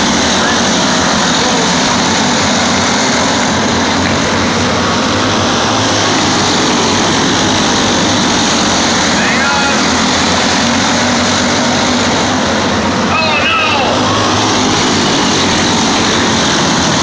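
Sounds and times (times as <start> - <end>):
kart engines droning: 0.0 - 17.0.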